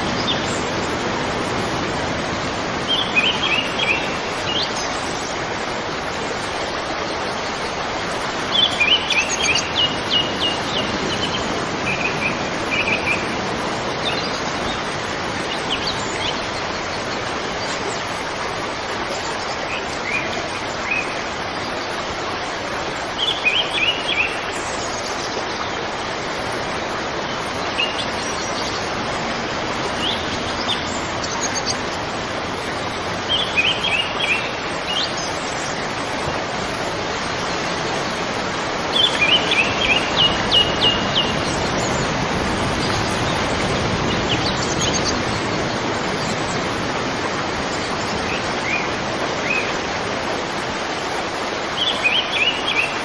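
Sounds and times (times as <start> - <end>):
songbirds chirping: 0.0 - 53.0
steady rushing background noise: 0.0 - 53.0.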